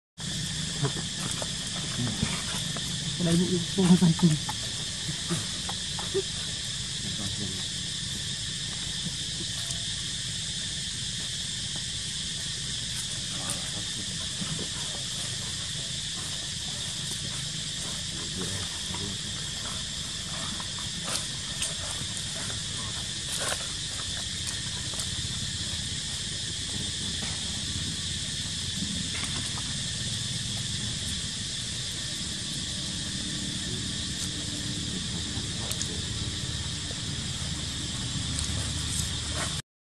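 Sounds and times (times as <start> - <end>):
insect chorus buzzing: 0.2 - 39.6.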